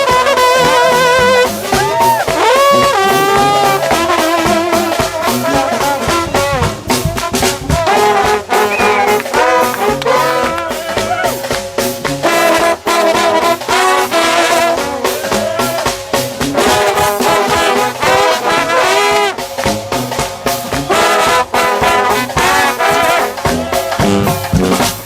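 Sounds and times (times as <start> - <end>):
trombone band playing gospel: 0.0 - 25.0.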